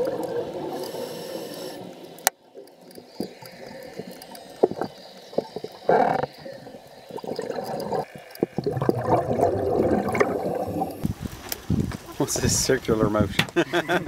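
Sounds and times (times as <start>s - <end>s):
underwater water noise: 0.0s - 14.0s.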